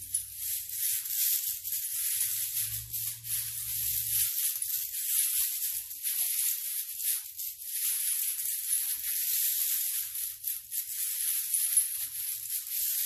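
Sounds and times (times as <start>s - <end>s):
ceramic chain links rattling: 0.0s - 13.0s.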